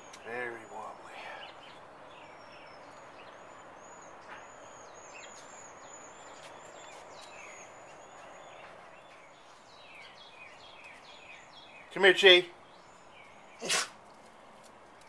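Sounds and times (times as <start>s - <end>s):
faint outdoor hiss: 0.0s - 15.0s
small birds chirping: 0.0s - 15.0s.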